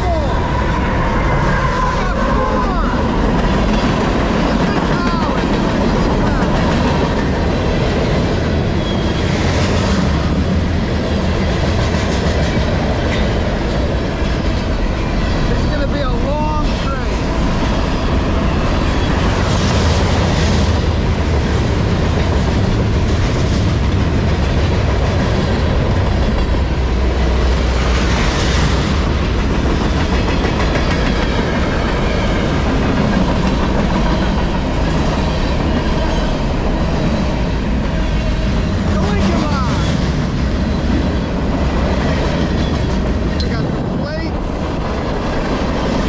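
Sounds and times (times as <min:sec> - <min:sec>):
freight train rumbling past: 0:00.0 - 0:46.0
steel wheels clattering on rails: 0:01.3 - 0:46.0.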